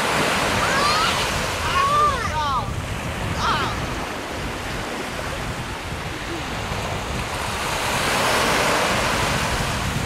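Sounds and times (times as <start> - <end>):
surf washing up beach: 0.0 - 10.0
wind buffeting microphone: 0.0 - 10.0.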